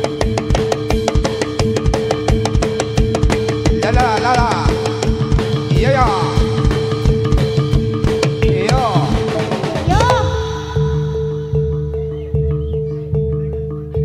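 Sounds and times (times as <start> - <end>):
drums keeping a steady beat: 0.0 - 14.0
high melodic line: 0.0 - 14.0.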